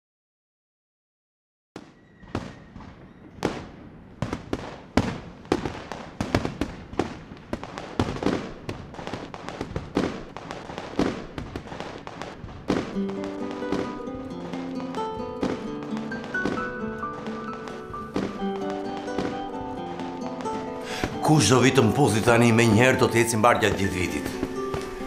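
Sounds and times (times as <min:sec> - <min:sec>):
fireworks bangs and crackles: 0:01.8 - 0:25.0.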